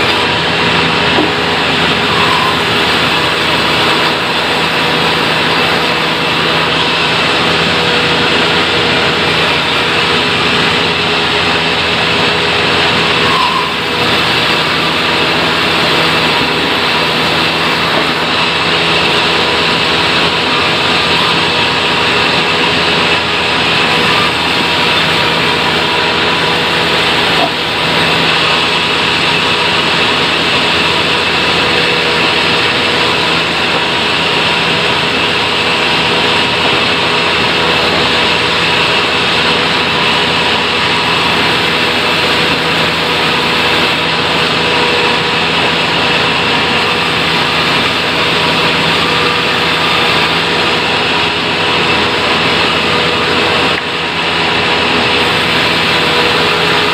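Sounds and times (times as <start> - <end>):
sawmill machinery sawing wood: 0.0 - 56.9.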